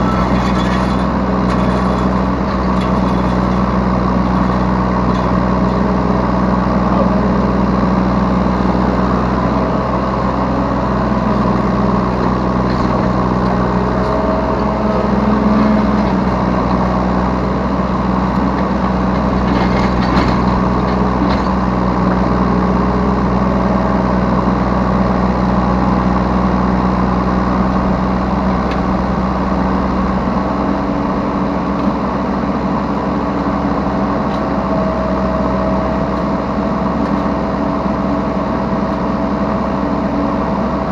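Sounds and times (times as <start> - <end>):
diesel excavator engine running: 0.0 - 40.9.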